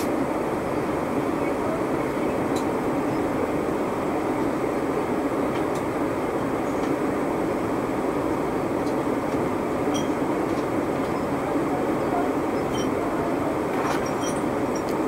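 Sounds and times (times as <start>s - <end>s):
airplane cabin engine hum: 0.0s - 15.0s.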